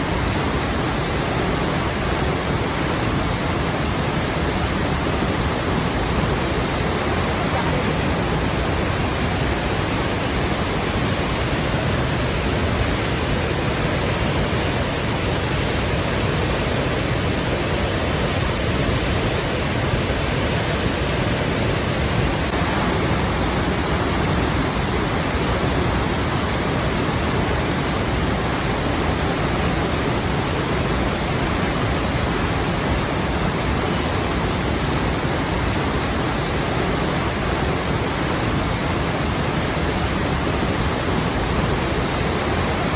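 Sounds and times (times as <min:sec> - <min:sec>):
flowing water rushing: 0:00.0 - 0:42.9.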